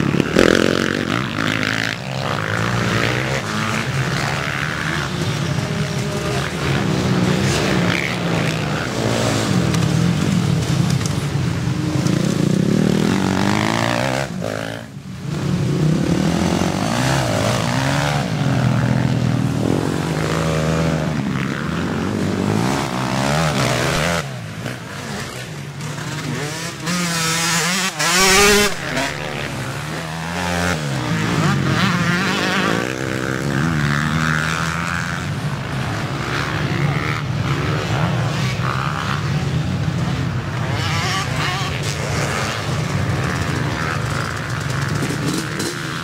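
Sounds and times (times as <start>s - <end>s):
motocross bikes racing past: 0.0s - 46.0s.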